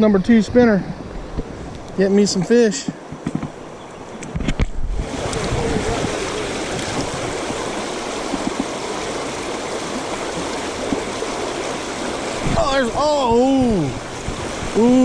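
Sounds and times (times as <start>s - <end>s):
river water rushing: 1.0s - 15.0s.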